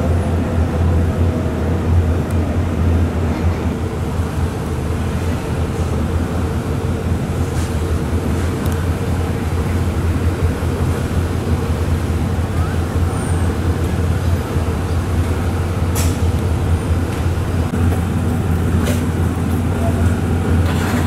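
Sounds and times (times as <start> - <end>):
train machinery droning: 0.0 - 21.0.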